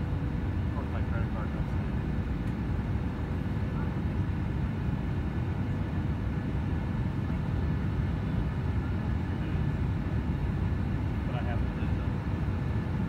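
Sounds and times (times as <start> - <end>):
faint steady whine: 0.0 - 13.0
jet engine rumble in cabin: 0.0 - 13.0.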